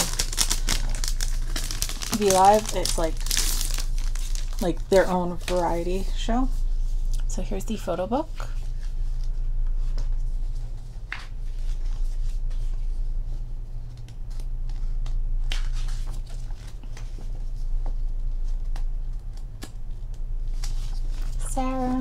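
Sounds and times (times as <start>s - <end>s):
paper pages rustling: 0.0s - 6.3s, 8.5s - 21.4s
steady low hum: 0.0s - 22.0s.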